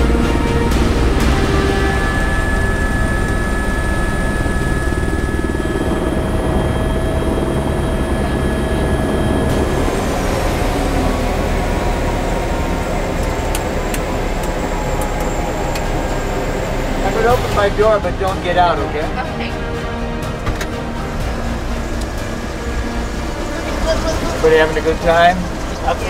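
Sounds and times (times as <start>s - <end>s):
helicopter turbine and rotor: 0.0s - 26.0s.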